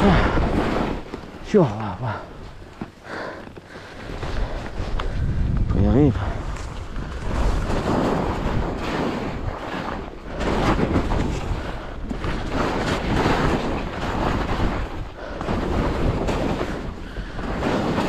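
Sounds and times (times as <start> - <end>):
wind buffeting microphone: 0.0 - 18.0
skis scraping over snow: 0.2 - 18.0.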